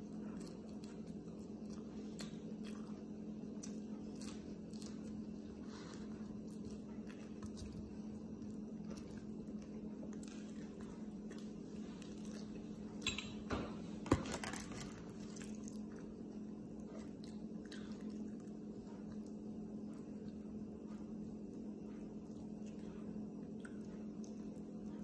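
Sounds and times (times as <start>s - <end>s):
person chewing: 0.0s - 13.0s, 14.4s - 25.0s
steady low hum: 0.0s - 25.0s.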